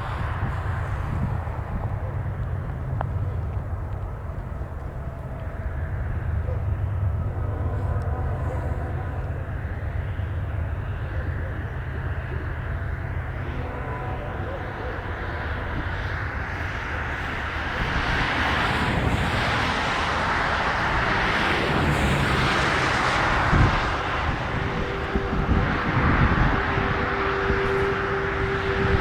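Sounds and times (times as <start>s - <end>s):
steady hum: 0.0s - 29.0s
train wheels on rail: 0.0s - 29.0s
wind buffeting microphone: 0.0s - 29.0s.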